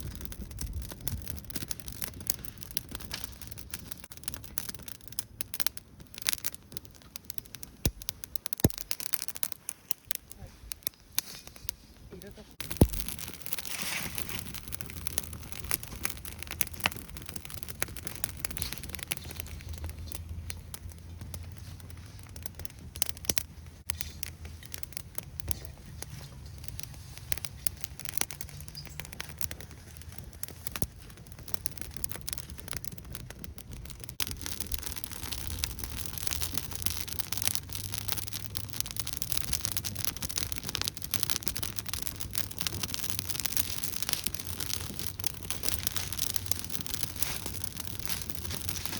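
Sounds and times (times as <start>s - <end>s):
campfire crackling and popping: 0.0s - 48.9s
low rumble of flame: 0.0s - 48.9s.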